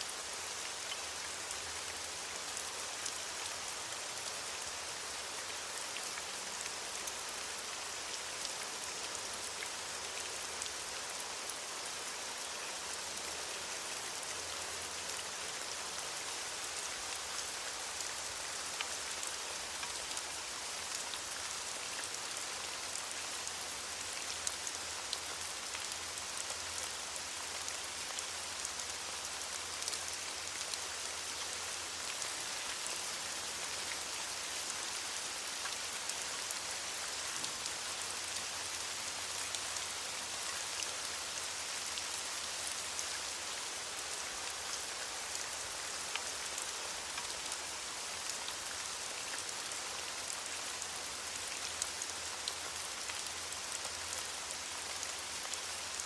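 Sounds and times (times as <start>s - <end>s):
rain falling on leaves: 0.0s - 56.0s.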